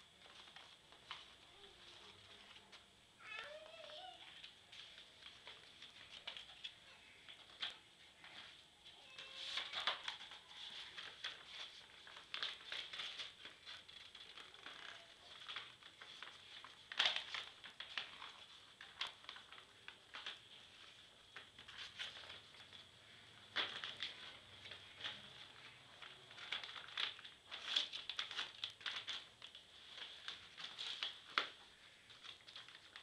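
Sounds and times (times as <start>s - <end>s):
paper rustling and crinkling: 0.0s - 33.0s.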